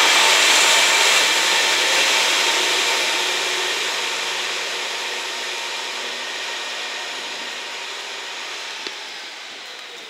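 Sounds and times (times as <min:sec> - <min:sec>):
diesel train running: 0:00.0 - 0:10.0.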